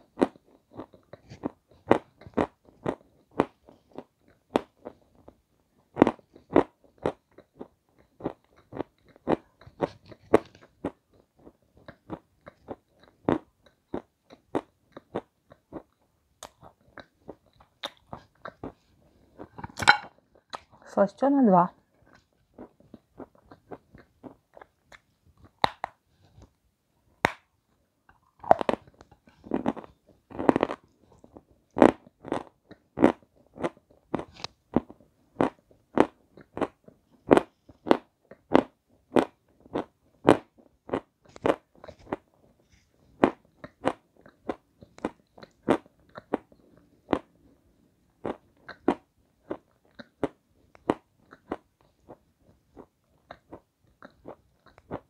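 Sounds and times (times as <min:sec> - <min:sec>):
crunchy chewing: 0:00.0 - 0:20.8, 0:21.9 - 0:26.6, 0:28.1 - 0:47.6, 0:48.2 - 0:55.0.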